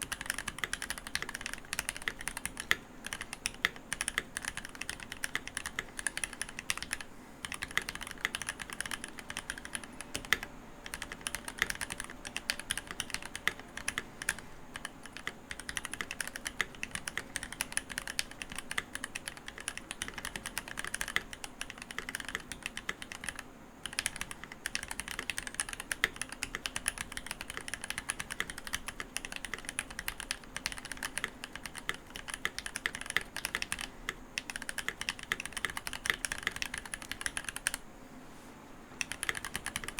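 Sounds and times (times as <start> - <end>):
mechanical keyboard typing: 0.0 - 37.8, 39.0 - 39.9.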